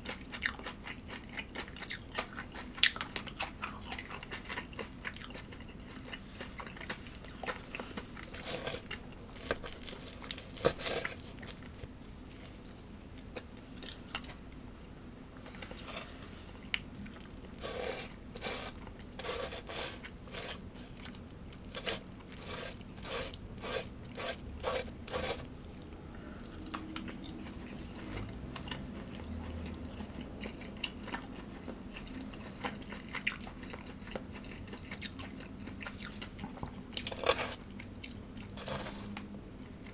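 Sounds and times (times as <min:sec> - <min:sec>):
person chewing crunchy food: 0:00.0 - 0:14.4, 0:15.5 - 0:39.9.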